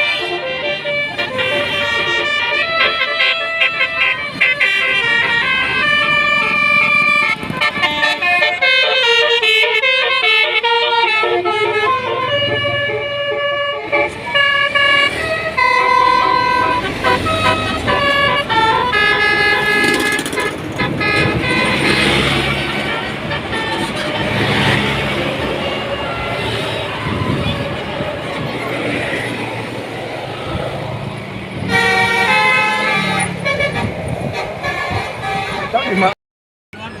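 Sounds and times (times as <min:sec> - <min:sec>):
multi-tone bus horn melody: 0:00.0 - 0:36.2.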